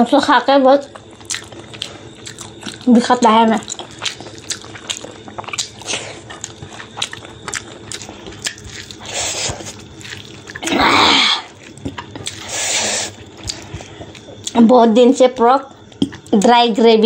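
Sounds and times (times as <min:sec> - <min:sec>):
chewing with wet mouth clicks: 0:00.8 - 0:10.7, 0:11.5 - 0:14.6, 0:15.3 - 0:16.6.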